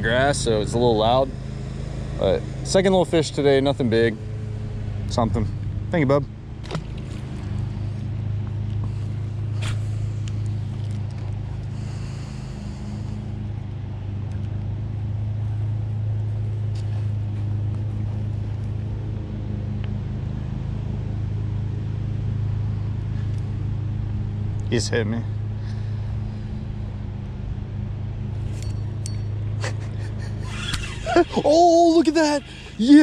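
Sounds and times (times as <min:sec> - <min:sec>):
lawn mower engine droning: 0:00.0 - 0:33.0.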